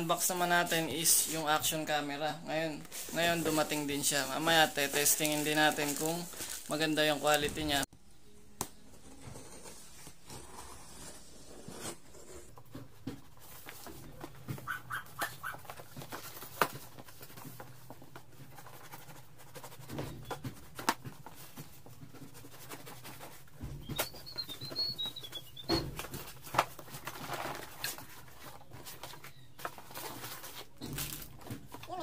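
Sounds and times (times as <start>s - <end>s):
cardboard scraping and rustling: 2.9s - 7.7s, 9.0s - 14.6s, 15.5s - 32.0s.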